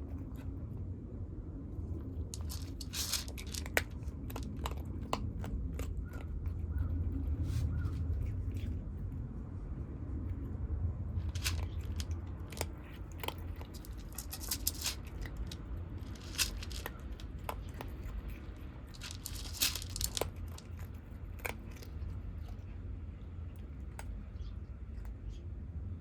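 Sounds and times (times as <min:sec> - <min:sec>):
low rumble: 0:00.0 - 0:24.3
kittens crunching dry food: 0:00.0 - 0:25.4.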